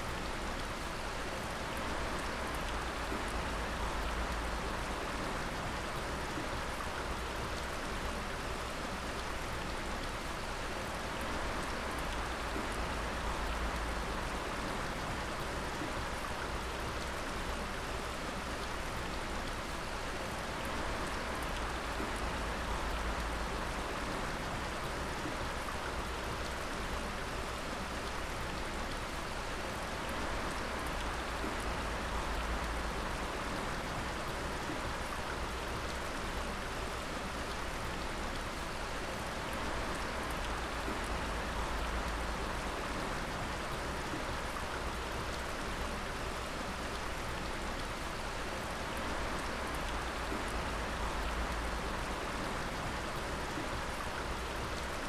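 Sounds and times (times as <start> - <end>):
water dripping and splashing: 0.1 - 55.0.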